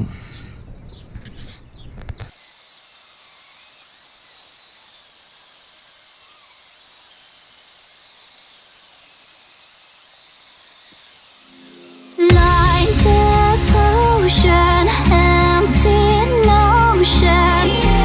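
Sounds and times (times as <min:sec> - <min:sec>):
steady hiss: 0:02.2 - 0:18.0.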